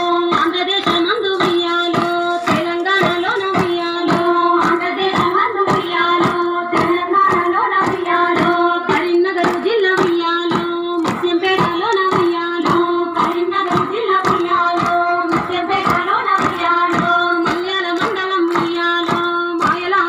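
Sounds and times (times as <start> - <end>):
woman singing folk song: 0.0 - 20.0
women clapping in rhythm: 0.0 - 20.0.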